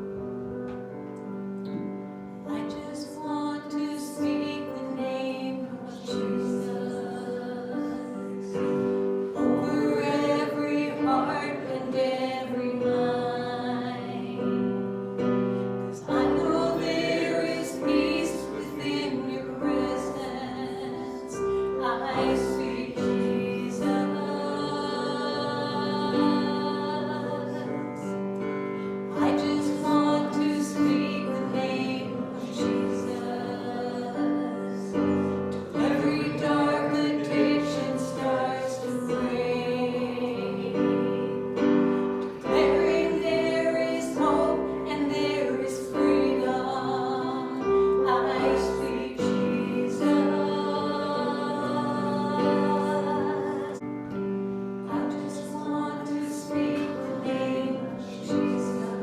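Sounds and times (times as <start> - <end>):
voices singing: 2.5 - 54.2, 54.8 - 59.0.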